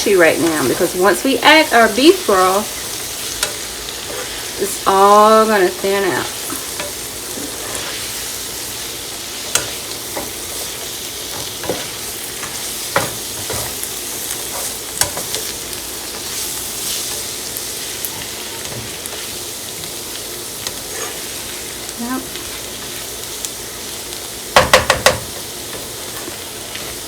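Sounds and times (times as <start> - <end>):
vegetables sizzling in a pan: 0.0 - 27.0.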